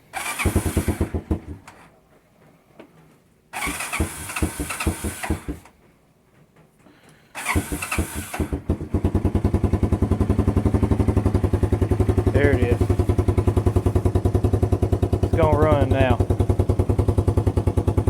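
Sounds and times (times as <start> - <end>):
engine cranking and dying: 0.1 - 1.9, 3.6 - 5.8, 7.4 - 18.0.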